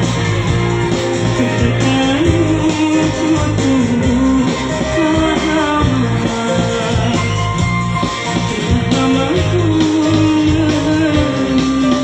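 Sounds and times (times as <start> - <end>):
guitar melody bending: 0.0 - 12.0
live band music through pa: 0.0 - 12.0.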